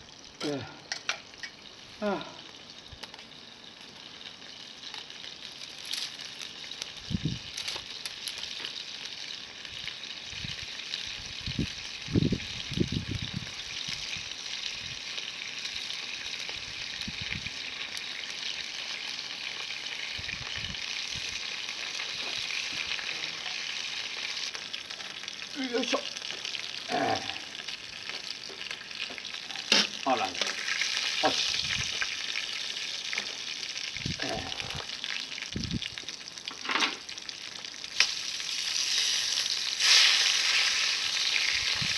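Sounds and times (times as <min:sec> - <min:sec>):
meat sizzling on a grill: 0:00.0 - 0:41.9.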